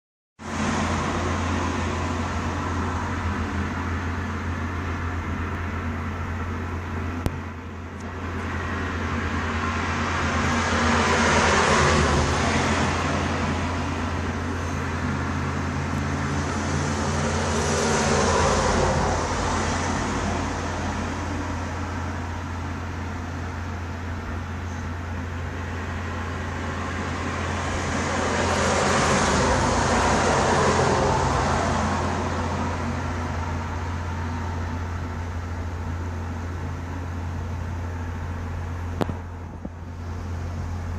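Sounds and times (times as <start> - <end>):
road traffic: 0.4 - 40.9
vehicles passing by: 0.4 - 40.9.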